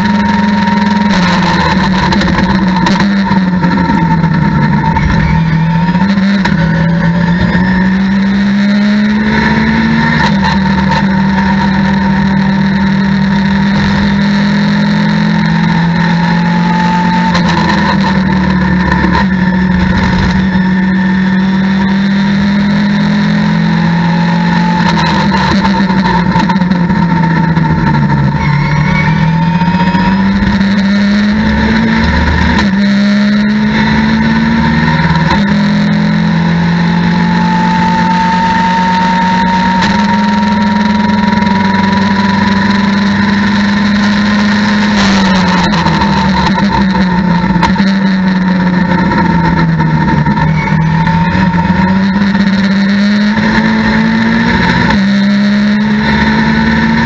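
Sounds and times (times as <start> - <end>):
high transmission whine: 0.0 - 57.0
race car engine revving: 0.0 - 57.0.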